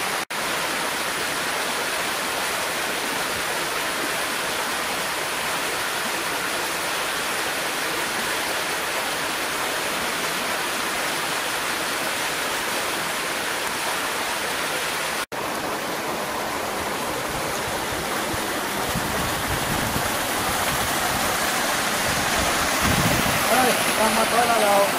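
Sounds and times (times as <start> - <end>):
stream flowing over boulders: 0.0 - 24.9.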